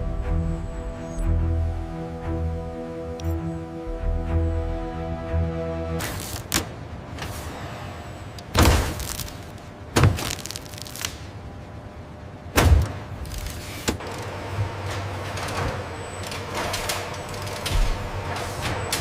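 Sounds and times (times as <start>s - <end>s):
steady factory hum: 0.0s - 19.0s.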